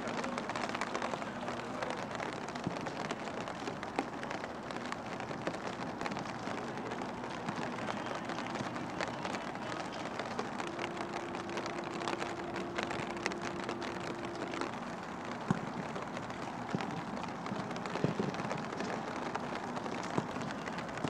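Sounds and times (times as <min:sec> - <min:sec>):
rain hissing on grass: 0:00.0 - 0:21.0.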